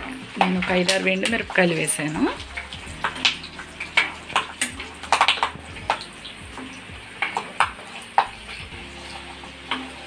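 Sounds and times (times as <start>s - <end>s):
ladle stirring and scraping: 0.0s - 10.0s
spices sizzling in hot oil: 0.0s - 10.0s.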